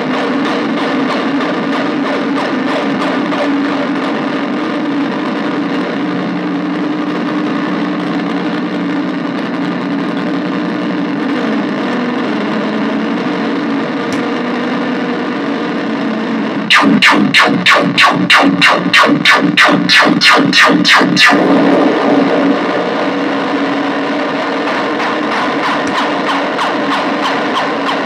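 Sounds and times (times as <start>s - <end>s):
buzzing synthesizer drone: 0.0s - 28.0s.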